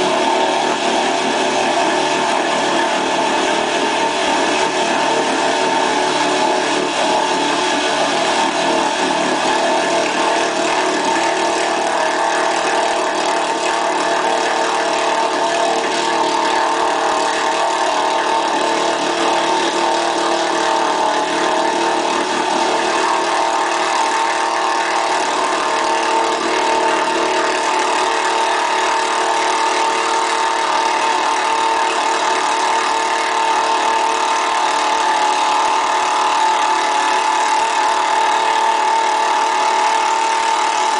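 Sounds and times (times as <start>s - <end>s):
truck engine running under load: 0.0s - 40.9s
tyres churning through mud: 0.0s - 40.9s.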